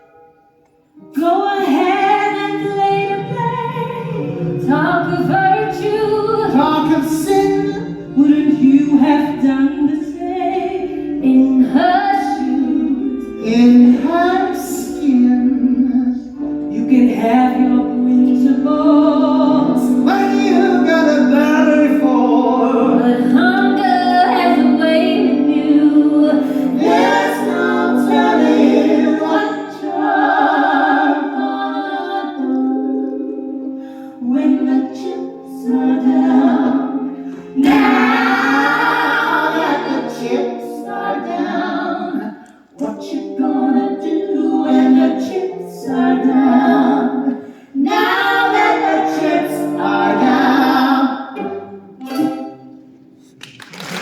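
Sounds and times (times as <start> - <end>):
women singing in close harmony: 1.0 - 16.7, 22.8 - 51.7.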